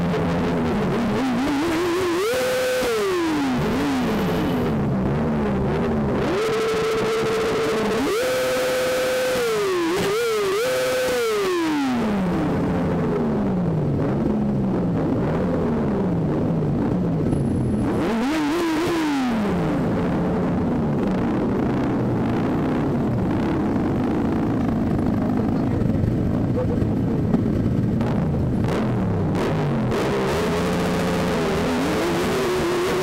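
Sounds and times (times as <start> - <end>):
motorcycle engine revving: 0.0 - 33.0
motorcycle engines running slowly: 0.0 - 33.0.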